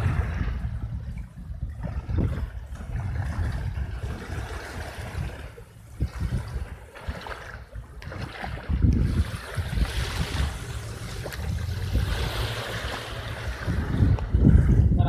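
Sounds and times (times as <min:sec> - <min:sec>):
small waves on shore: 0:00.0 - 0:15.0
wind buffeting microphone: 0:00.0 - 0:15.0.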